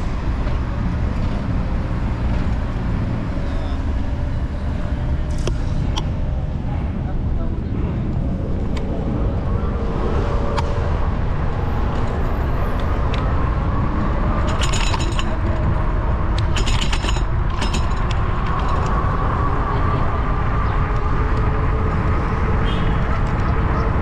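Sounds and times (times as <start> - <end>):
road noise: 0.0 - 24.0
wind rushing over microphone: 0.0 - 24.0.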